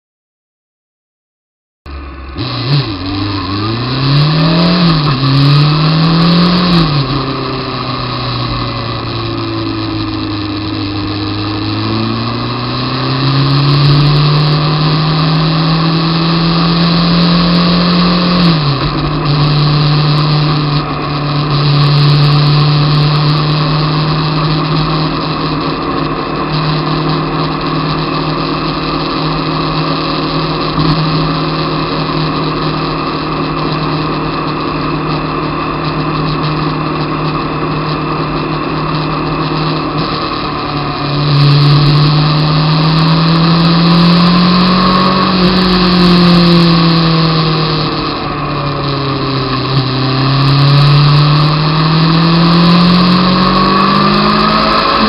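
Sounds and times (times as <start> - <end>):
motorcycle engine revving: 1.9 - 55.0.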